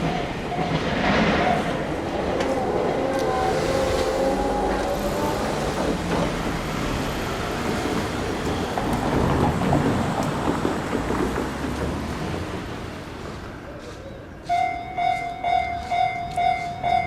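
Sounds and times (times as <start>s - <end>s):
vehicles rumbling over railroad crossing: 0.0s - 17.0s.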